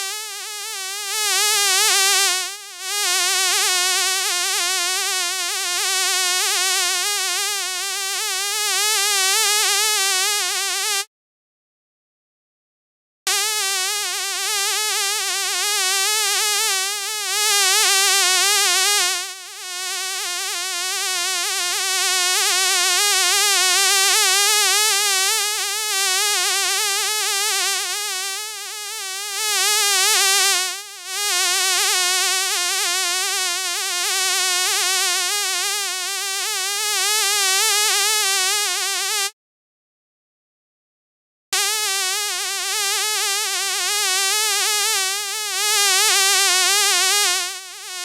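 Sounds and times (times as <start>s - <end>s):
fly buzzing in flight: 0.0s - 11.0s, 13.3s - 39.3s, 41.6s - 48.0s.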